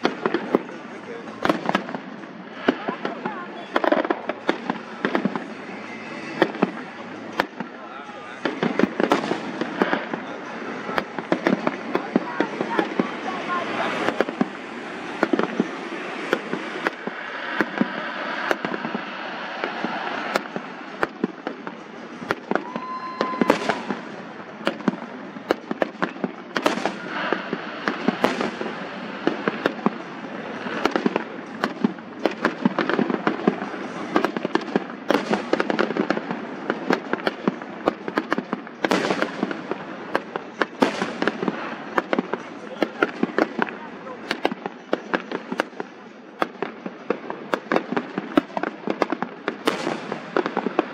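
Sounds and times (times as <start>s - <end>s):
echoing firework booms: 0.0s - 50.9s
fireworks bangs: 0.0s - 50.9s
fireworks crackling: 0.0s - 50.9s.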